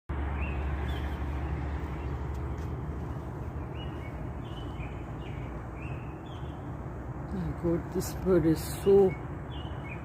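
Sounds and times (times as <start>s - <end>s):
bird chirping: 0.1s - 10.0s.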